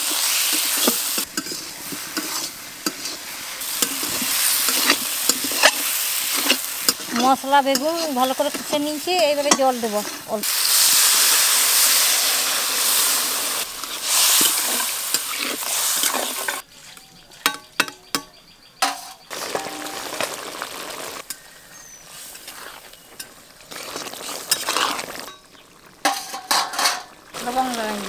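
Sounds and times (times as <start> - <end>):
curry simmering: 0.0 - 16.6, 19.2 - 28.0
water sizzling in hot oil: 0.0 - 16.6, 19.2 - 21.3, 21.9 - 28.0.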